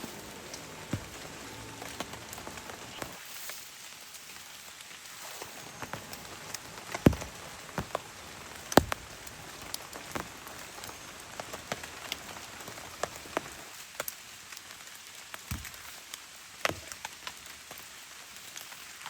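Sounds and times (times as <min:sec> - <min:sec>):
large raindrops tapping: 0:00.0 - 0:19.0
rain falling: 0:00.0 - 0:19.0.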